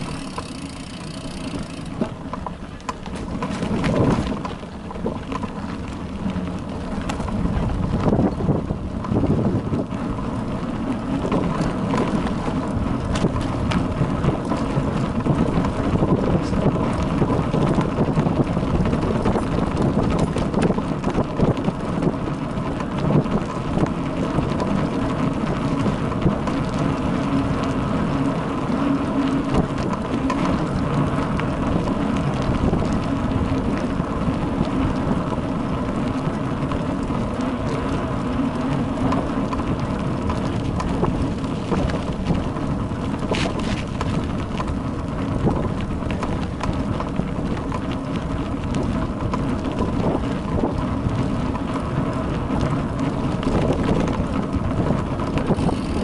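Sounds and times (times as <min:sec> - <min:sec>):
bicycle rattling over dirt road: 0:00.0 - 0:56.0.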